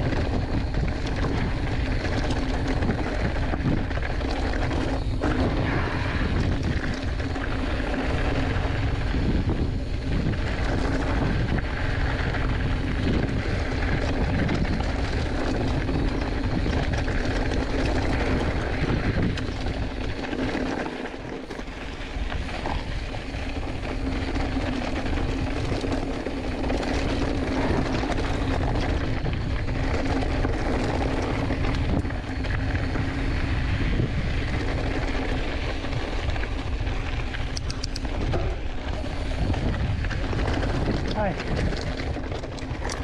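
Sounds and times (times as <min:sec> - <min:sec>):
bike tyres rumbling over rocky trail: 0:00.0 - 0:43.0
wind buffeting microphone: 0:00.0 - 0:43.0.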